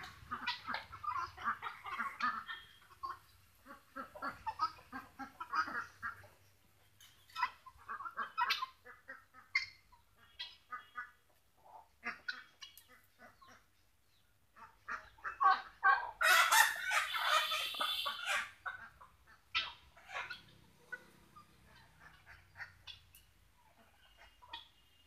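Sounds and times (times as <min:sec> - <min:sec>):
poultry flock calling: 0:00.0 - 0:06.5, 0:07.3 - 0:13.7, 0:14.5 - 0:25.0.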